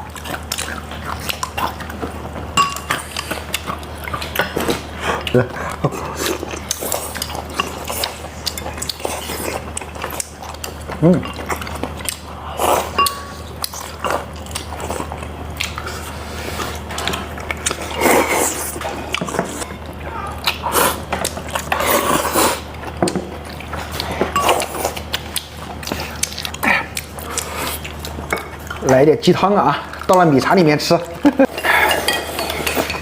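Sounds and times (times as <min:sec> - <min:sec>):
people chewing and biting: 0:00.0 - 0:33.0.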